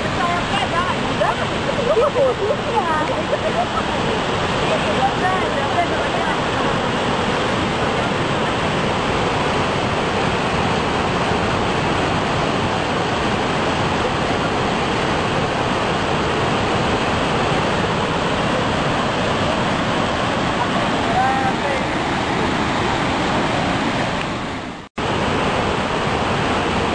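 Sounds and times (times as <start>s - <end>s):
waterfall rushing over rock: 0.0s - 26.9s.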